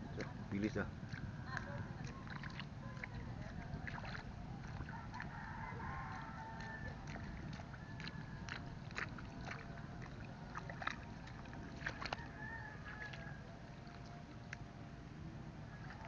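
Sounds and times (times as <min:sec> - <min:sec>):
steady low rumble: 0:00.0 - 0:16.0
feet squelching in mud: 0:01.0 - 0:14.7.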